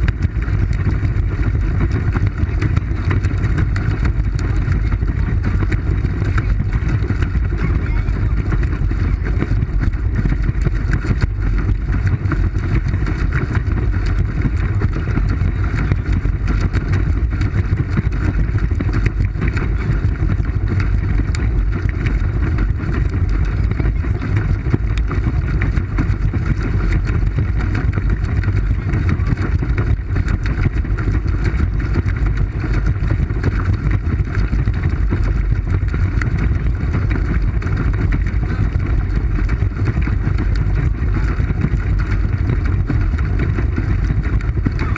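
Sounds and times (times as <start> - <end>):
muffled wind and water rumble: 0.0 - 44.9.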